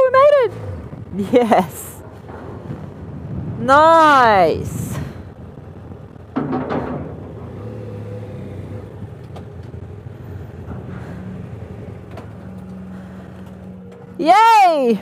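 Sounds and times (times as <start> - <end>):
motorcycle engine at low revs: 0.0 - 3.6, 5.0 - 14.2.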